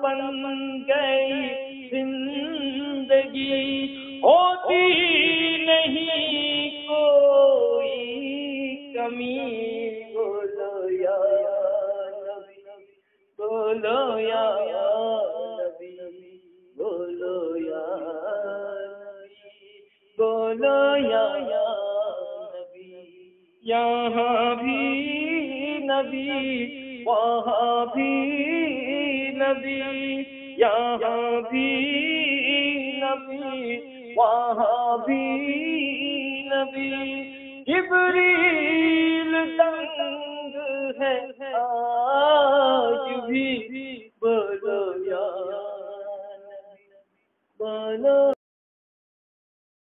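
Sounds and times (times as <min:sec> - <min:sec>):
man singing devotional song: 0:00.0 - 0:47.0, 0:47.6 - 0:48.4.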